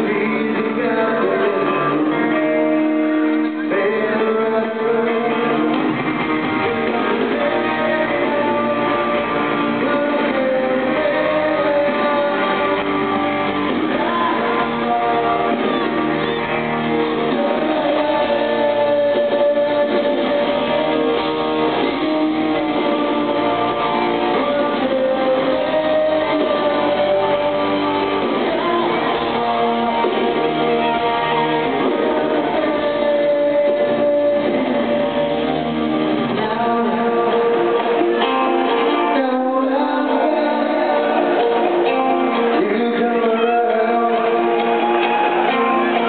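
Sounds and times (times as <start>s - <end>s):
live rock band playing: 0.0s - 46.0s
person singing: 0.0s - 46.0s.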